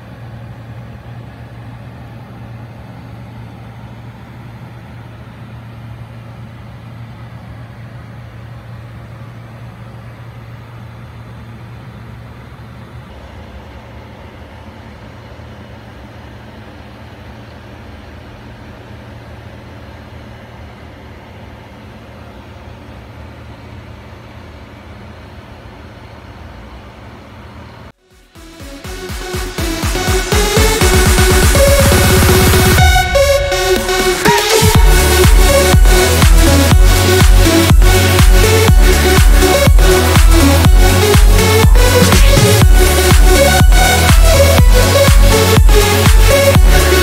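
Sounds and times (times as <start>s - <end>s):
low mechanical hum and rumble: 0.0s - 28.0s, 28.6s - 47.0s.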